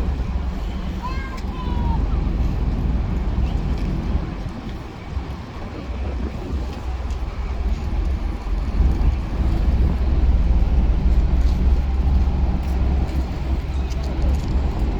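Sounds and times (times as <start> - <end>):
ship engine rumble: 0.0 - 14.9.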